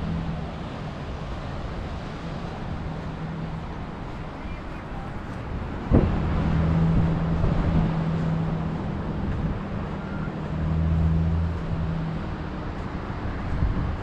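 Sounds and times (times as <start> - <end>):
rushing background noise: 0.0 - 14.0.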